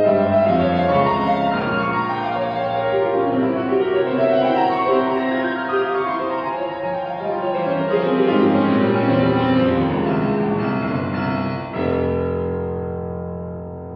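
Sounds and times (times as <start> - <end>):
grand piano playing: 0.0 - 13.9.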